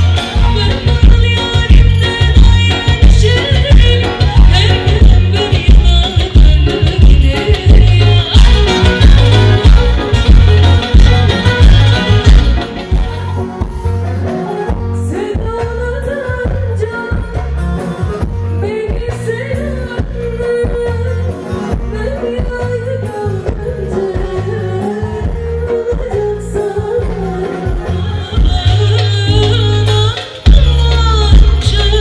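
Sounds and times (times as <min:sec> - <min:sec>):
band with pulsing bass beat: 0:00.0 - 0:32.0
woman singing: 0:00.0 - 0:32.0.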